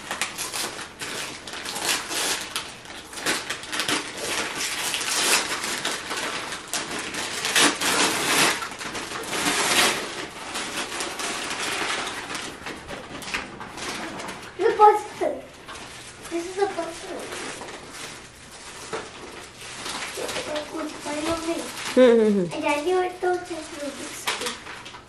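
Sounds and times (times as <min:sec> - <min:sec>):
wrapping paper tearing and crumpling: 0:00.0 - 0:25.0.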